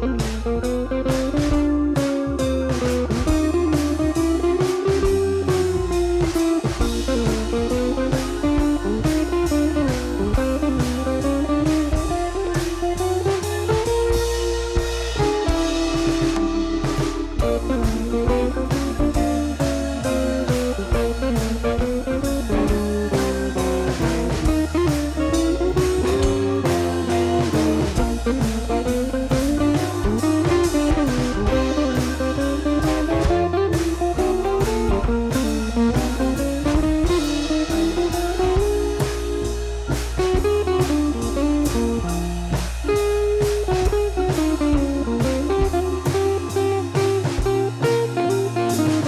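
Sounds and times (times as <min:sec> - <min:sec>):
regular drum beat: 0:00.0 - 0:49.0
sliding melody: 0:00.0 - 0:49.0
steady bass: 0:00.0 - 0:49.0.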